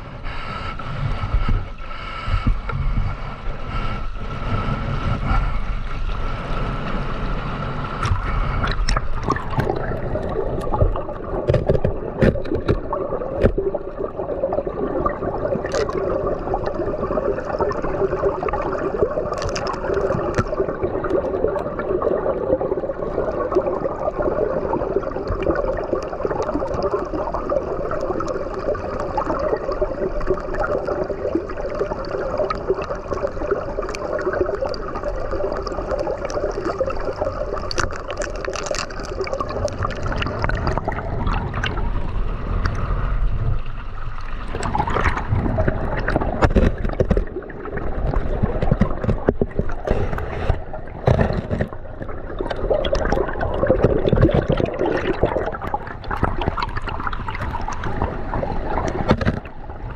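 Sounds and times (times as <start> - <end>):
river water flowing around ice: 0.0 - 59.9.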